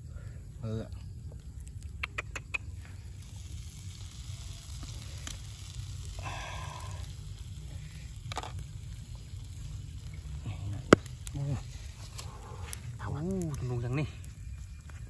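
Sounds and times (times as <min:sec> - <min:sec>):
meat sizzling on grill: 0:01.2 - 0:15.0
steady low rumble: 0:02.7 - 0:15.0.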